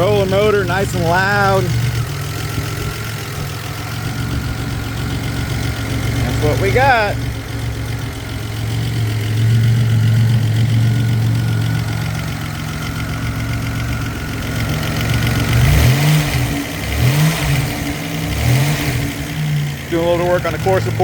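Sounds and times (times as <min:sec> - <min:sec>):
car engine running and revving: 0:00.0 - 0:21.0.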